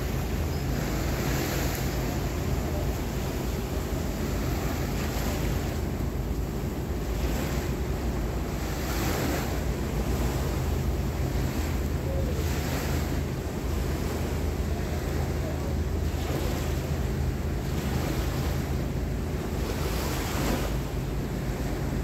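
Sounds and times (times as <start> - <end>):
sea water washing: 0.0 - 22.0.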